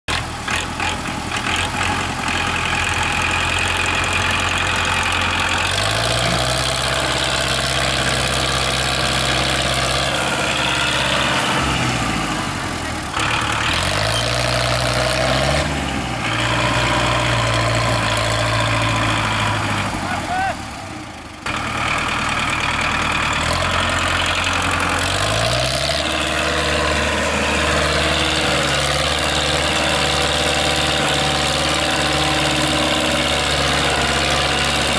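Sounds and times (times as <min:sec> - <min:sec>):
diesel tractor engine running hard: 0:00.1 - 0:34.9.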